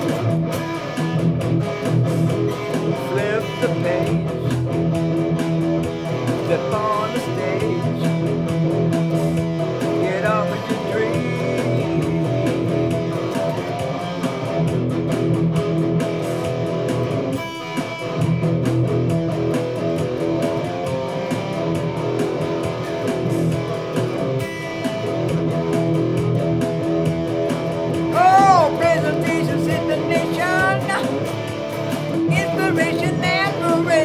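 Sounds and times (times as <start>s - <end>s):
bending guitar notes: 0.0s - 34.0s
drum machine beat: 0.0s - 34.0s
electric guitar strumming chords: 0.0s - 34.0s.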